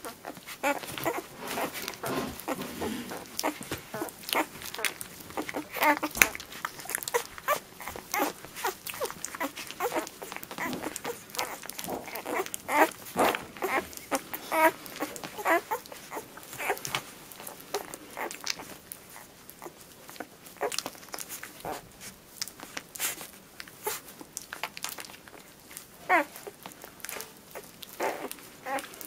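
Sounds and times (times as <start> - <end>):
puppies squeaking and whimpering: 0.0 - 29.0.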